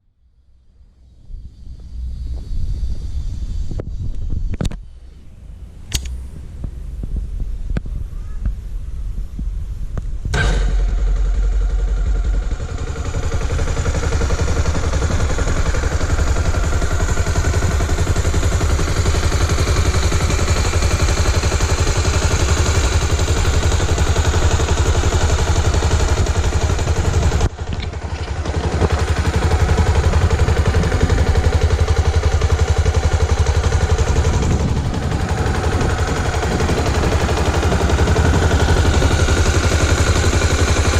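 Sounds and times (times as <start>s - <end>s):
motorcycle engine running: 0.5s - 40.9s.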